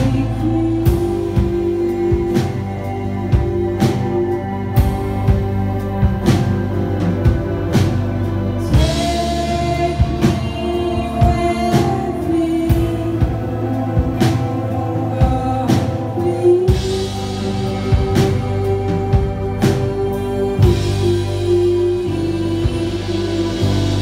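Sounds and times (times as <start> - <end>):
lead vocal singing: 0.0 - 24.0
live band playing: 0.0 - 24.0.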